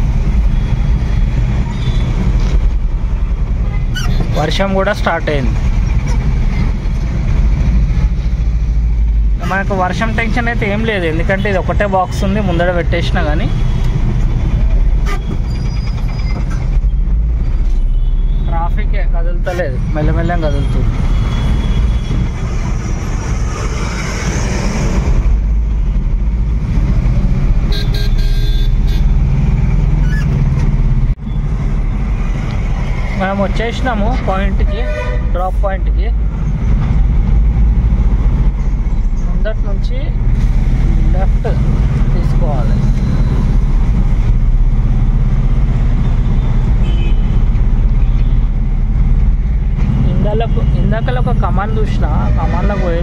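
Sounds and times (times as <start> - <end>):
engine low rumble: 0.0 - 53.0.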